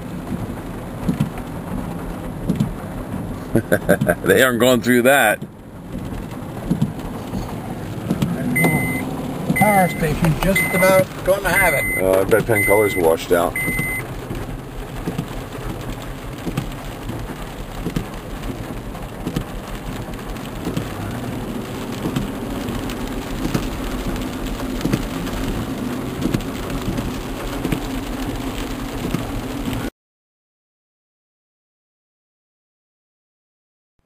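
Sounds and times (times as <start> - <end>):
heavy rain: 0.0 - 29.9
sharp raindrop hits: 0.0 - 29.9.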